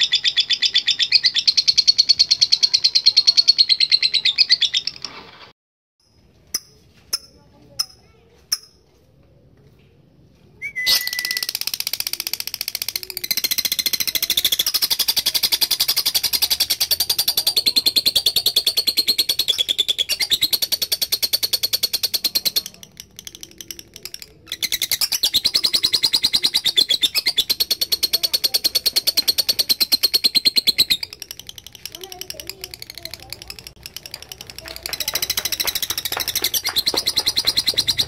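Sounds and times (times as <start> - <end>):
lovebird chattering: 0.0 - 5.0, 10.8 - 38.0.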